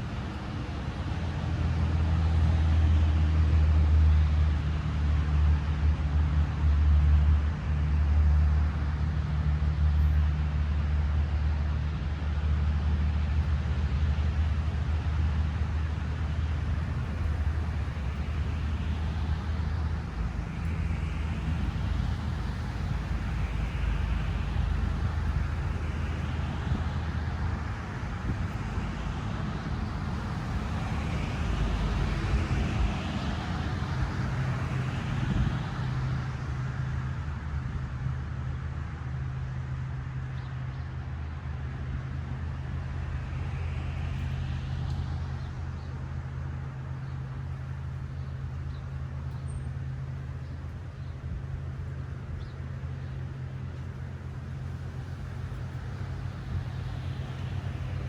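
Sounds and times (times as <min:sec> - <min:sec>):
vehicle engine humming: 0:03.8 - 0:39.1, 0:42.3 - 0:58.0.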